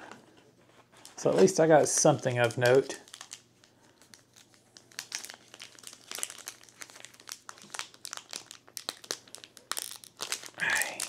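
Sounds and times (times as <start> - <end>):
plastic wrapper crinkling: 0.8 - 11.0.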